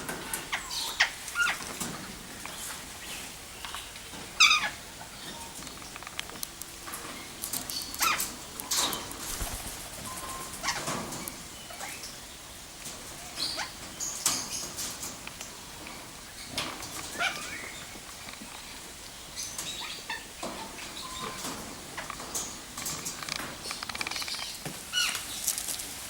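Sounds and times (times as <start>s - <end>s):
birds harsh calls: 0.0s - 25.6s.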